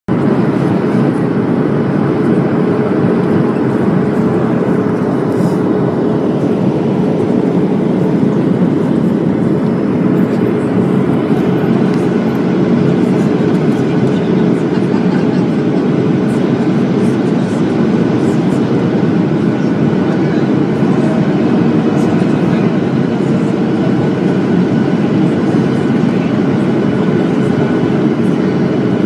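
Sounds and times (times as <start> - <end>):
airliner engine rumble: 0.1 - 29.0.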